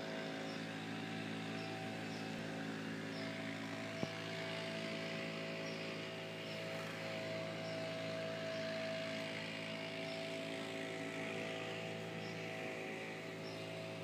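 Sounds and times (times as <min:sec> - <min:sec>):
pressure washer running: 0:00.0 - 0:14.0.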